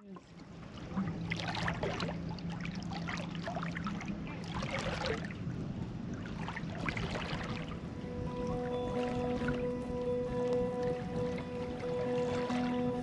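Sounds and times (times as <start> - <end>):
low steady hum: 0.0 - 13.0
water sloshing along hull: 0.0 - 13.0.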